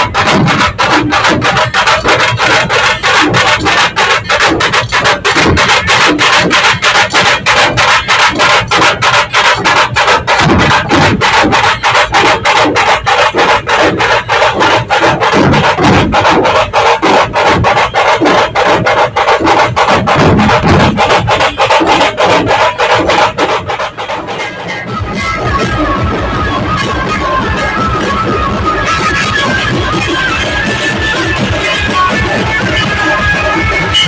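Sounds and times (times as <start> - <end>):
barrel drums pounding: 0.0 - 34.0.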